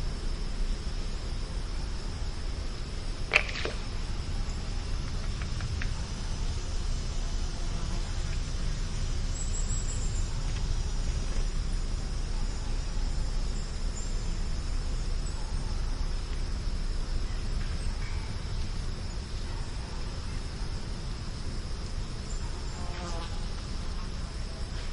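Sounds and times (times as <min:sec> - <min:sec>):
insect drone: 0:00.0 - 0:24.9.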